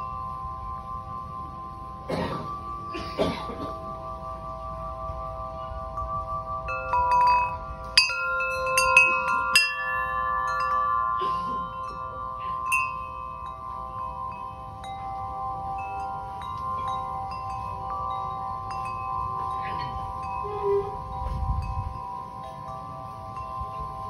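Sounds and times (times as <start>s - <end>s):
metal wind chime ringing: 0.0s - 24.0s.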